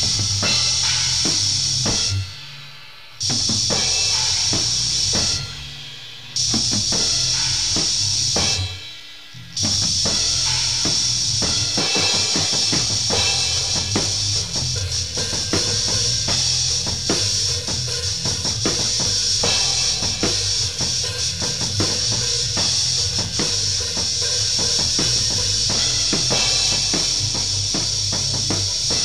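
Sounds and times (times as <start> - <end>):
band instrumental: 0.0 - 29.0
drum kit beat: 0.0 - 29.0.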